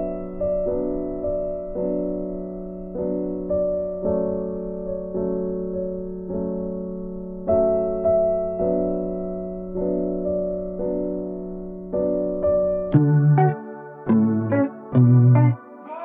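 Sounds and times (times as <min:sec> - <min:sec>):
slow melody of sustained notes: 0:00.0 - 0:16.0.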